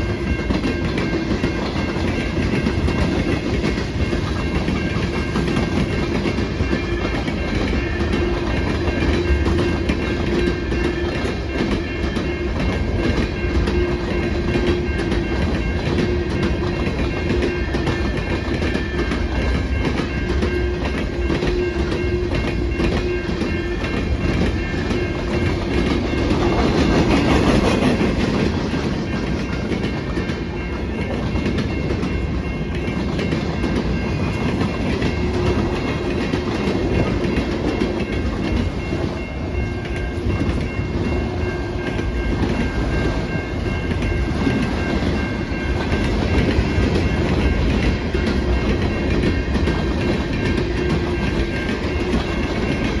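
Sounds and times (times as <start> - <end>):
train wheels clacking on rails: 0.0 - 53.0.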